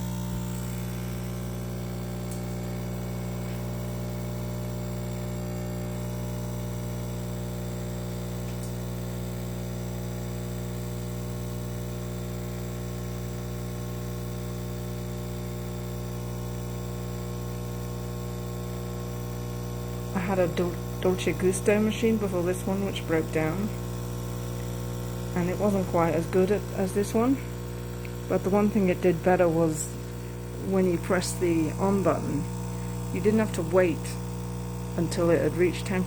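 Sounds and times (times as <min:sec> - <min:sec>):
coffee machine pump humming: 0:00.0 - 0:36.0.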